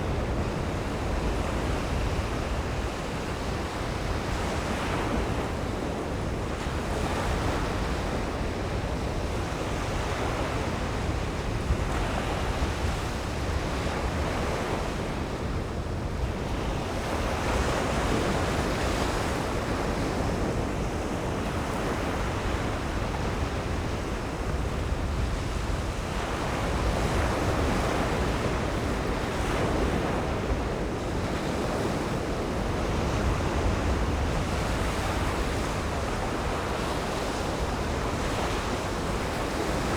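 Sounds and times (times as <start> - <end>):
surf waves breaking on beach: 0.0 - 39.9.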